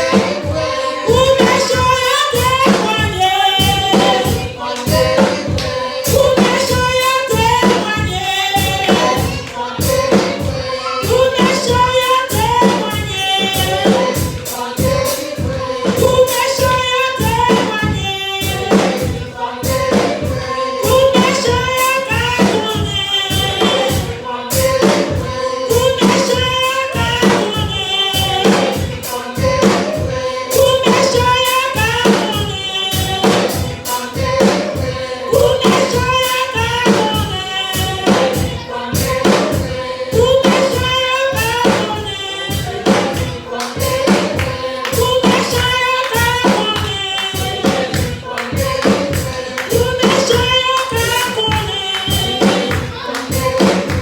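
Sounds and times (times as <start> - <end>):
percussion steady beat: 0.0 - 54.0
voices singing gospel song: 0.0 - 54.0.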